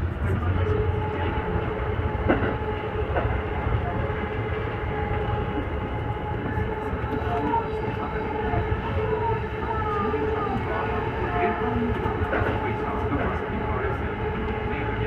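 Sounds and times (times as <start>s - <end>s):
electric train whine: 0.0s - 15.0s
train wheels rumbling on rail: 0.0s - 15.0s.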